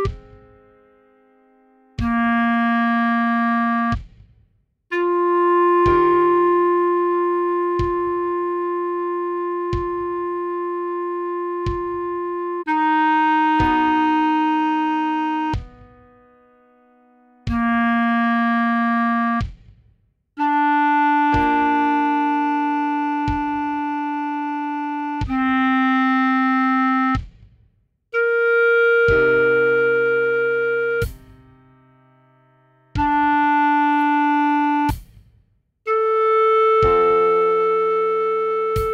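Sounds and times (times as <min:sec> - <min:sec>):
clarinet melody: 0:00.0 - 0:04.0, 0:04.9 - 0:19.4, 0:20.4 - 0:27.2, 0:28.1 - 0:35.0, 0:35.9 - 0:38.9
soft keyboard chords: 0:00.0 - 0:04.0, 0:04.9 - 0:19.4, 0:20.4 - 0:27.2, 0:28.2 - 0:34.9, 0:35.9 - 0:38.9.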